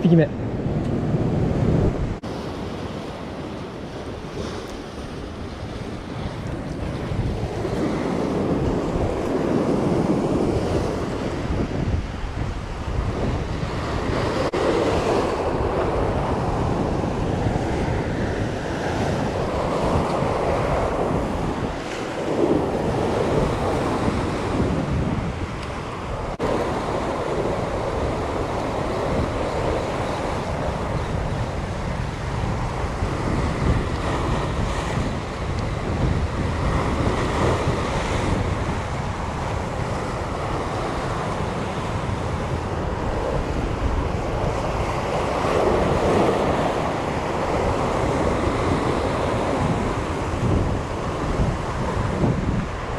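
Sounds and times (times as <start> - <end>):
wind buffeting microphone: 0.0 - 52.9
sea waves washing on rocky shore: 2.2 - 52.9.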